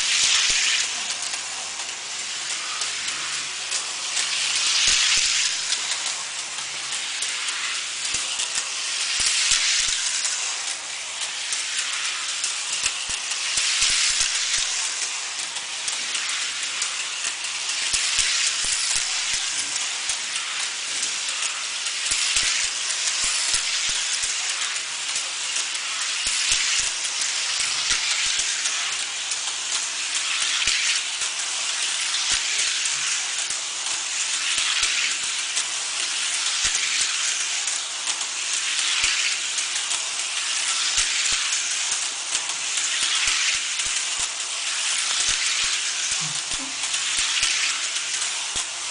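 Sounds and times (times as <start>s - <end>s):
light clicks from track: 0.0s - 48.9s
toy electric motors whirring: 0.0s - 48.9s.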